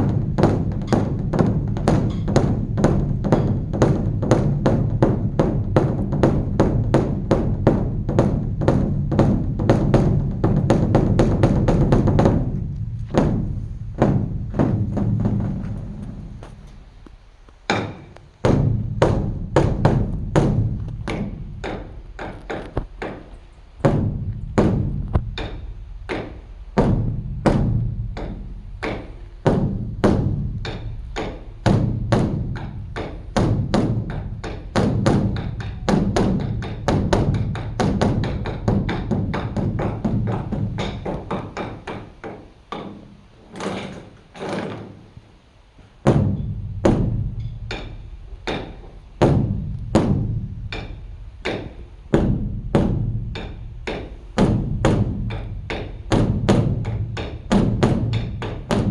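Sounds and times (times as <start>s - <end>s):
large drum beaten with sticks: 0.0s - 17.0s, 17.7s - 43.1s, 46.0s - 58.9s.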